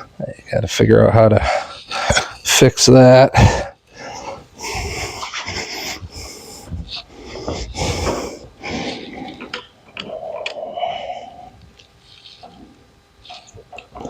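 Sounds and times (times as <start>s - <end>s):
heavy breathing: 1.3s - 2.5s, 3.3s - 14.0s.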